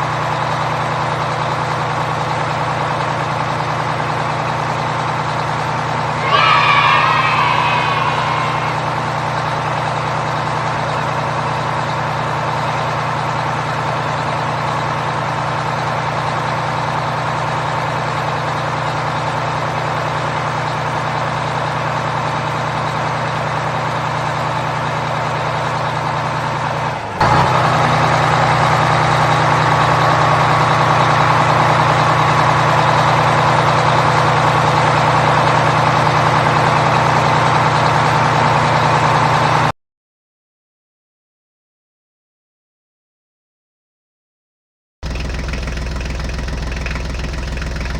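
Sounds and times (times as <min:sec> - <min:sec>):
truck engine idling: 0:00.0 - 0:39.7, 0:45.0 - 0:47.9.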